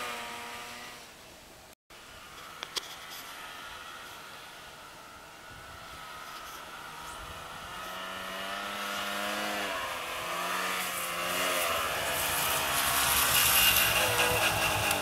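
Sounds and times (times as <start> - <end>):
snowmobile engine running: 2.3 - 15.0.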